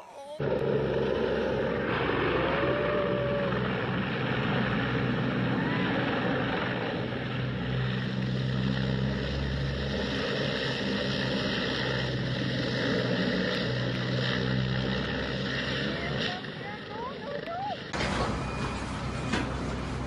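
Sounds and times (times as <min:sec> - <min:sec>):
motor humming: 0:00.4 - 0:20.0.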